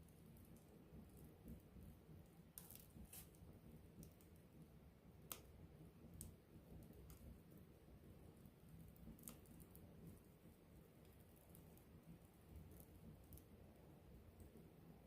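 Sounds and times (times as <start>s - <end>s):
fire crackles and pops: 0.0s - 15.0s.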